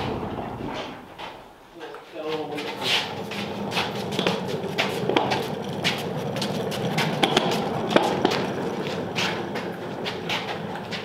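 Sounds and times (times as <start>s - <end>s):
cart casters rolling on concrete: 0.0s - 11.0s
load rattling with clacks: 0.0s - 11.0s.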